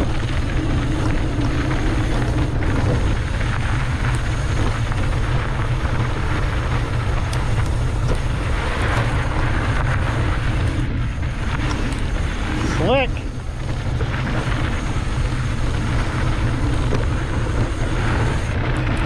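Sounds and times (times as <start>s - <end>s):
bike clicks and rattles: 0.0s - 19.0s
tyres rumbling on dirt: 0.0s - 19.0s
wind buffeting microphone: 0.0s - 19.0s.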